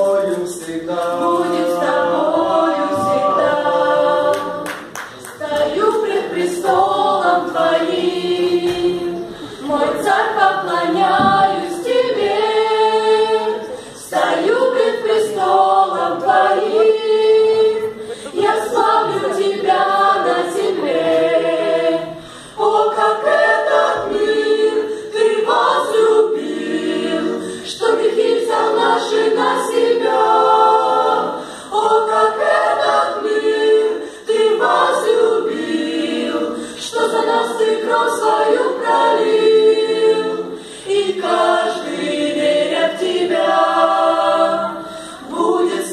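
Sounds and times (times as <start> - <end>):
choir singing a cappella: 0.0 - 45.9.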